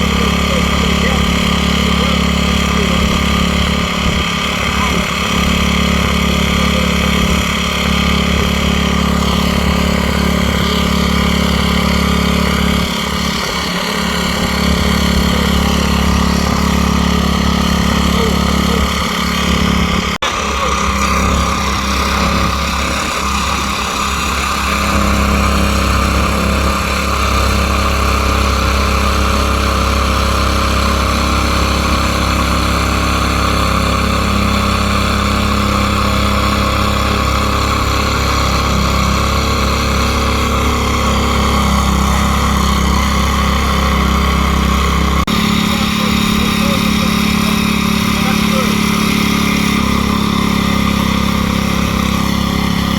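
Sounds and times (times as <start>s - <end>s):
garden tiller engine running: 0.0s - 52.9s.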